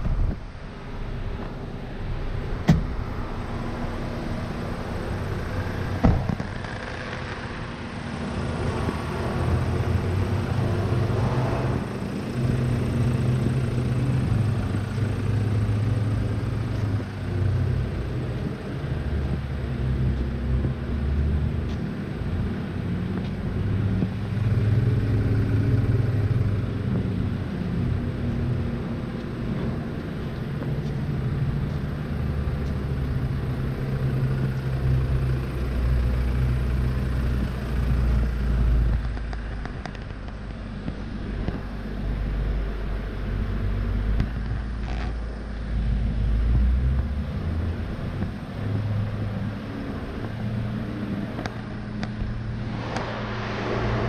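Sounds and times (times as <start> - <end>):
vehicle engine idling: 0.1 - 54.0.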